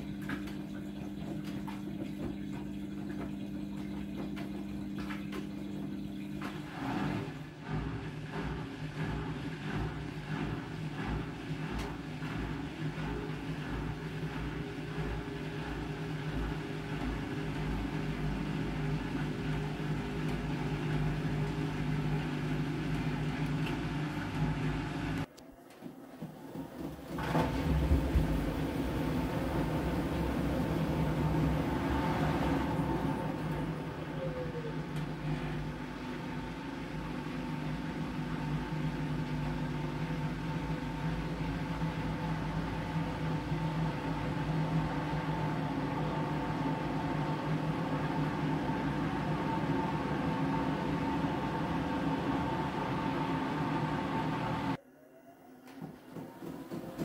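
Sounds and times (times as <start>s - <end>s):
washing machine humming: 0.0s - 57.0s.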